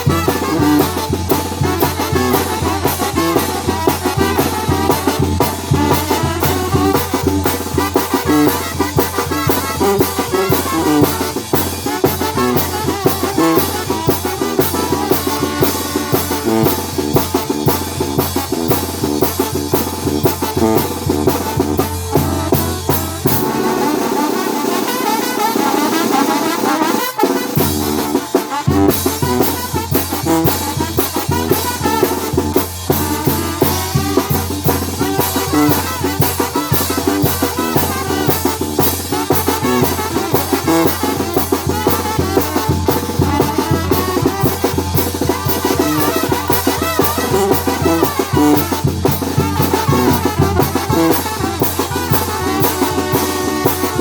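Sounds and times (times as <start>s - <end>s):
brass band playing: 0.0s - 54.0s
drums keeping a steady beat: 0.0s - 54.0s.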